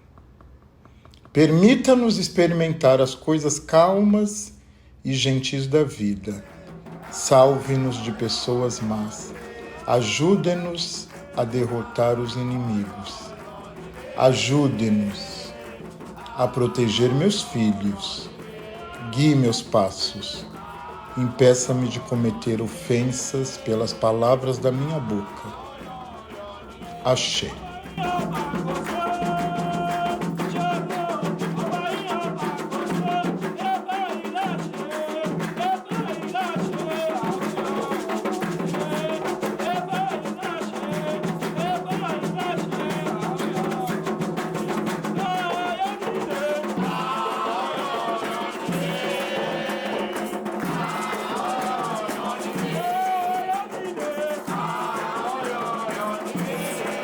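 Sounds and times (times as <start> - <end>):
steady drum rhythm: 6.2 - 57.0
music with singing: 6.3 - 57.0.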